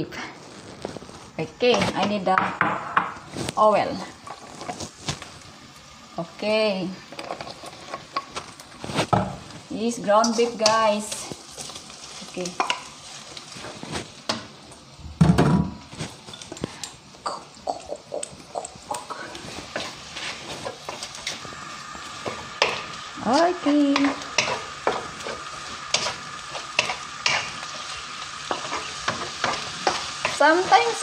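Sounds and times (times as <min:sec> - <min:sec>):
meat sizzling: 0:00.0 - 0:31.0
spatula scraping and tapping wok: 0:00.8 - 0:05.3, 0:07.1 - 0:14.8, 0:18.2 - 0:31.0.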